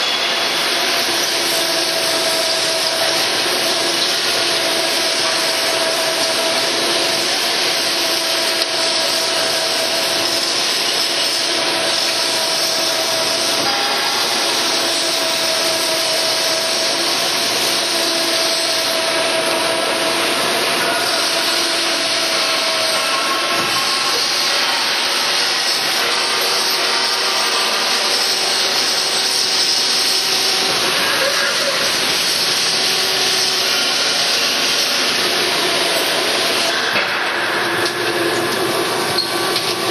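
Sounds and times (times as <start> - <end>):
drilling machine cutting steel: 0.0 - 39.9.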